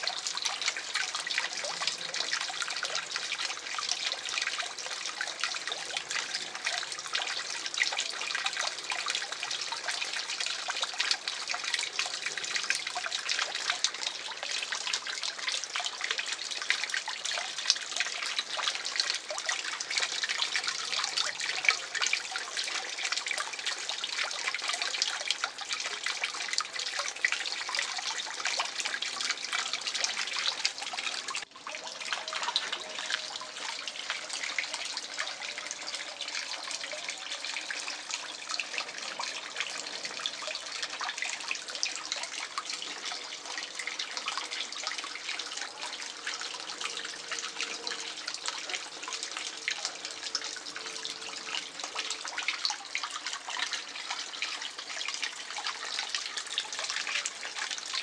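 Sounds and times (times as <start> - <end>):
pond water trickling and splashing: 0.0 - 58.0.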